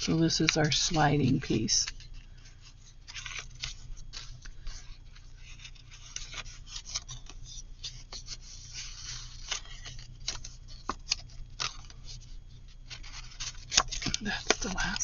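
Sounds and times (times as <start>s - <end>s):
paper rustling and rubbing: 0.0s - 15.0s.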